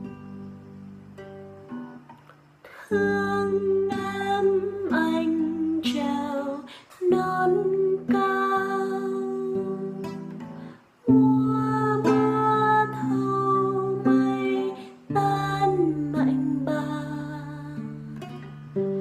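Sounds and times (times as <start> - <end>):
classical guitar fingerpicked chords: 0.0 - 19.0.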